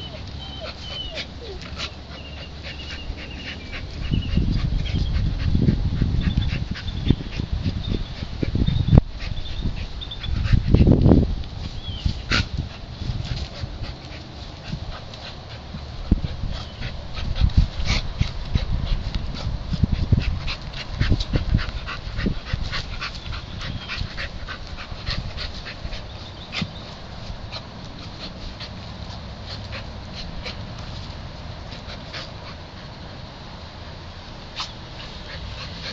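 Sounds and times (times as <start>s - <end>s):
dog panting and whining: 0.0s - 33.1s, 34.5s - 35.9s.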